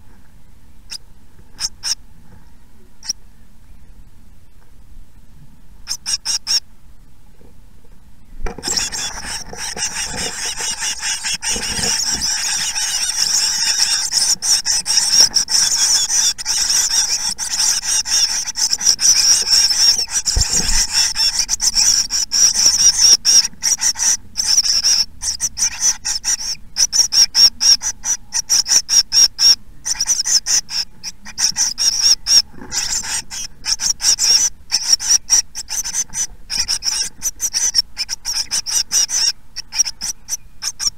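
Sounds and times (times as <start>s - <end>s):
nestlings begging calls: 0.9s - 2.0s, 3.0s - 3.2s, 5.8s - 6.6s, 8.5s - 40.9s.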